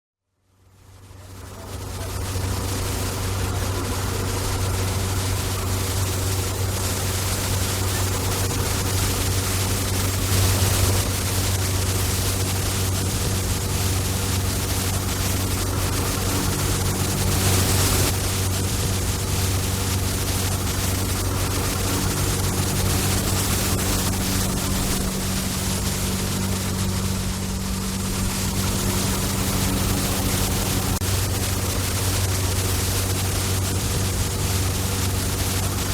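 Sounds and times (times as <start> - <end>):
broad even hiss: 0.8 - 35.9
truck engine drone: 1.1 - 35.9.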